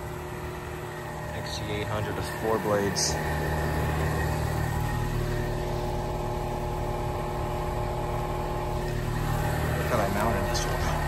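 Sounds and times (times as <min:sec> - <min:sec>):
air conditioner unit hum: 0:00.0 - 0:11.0.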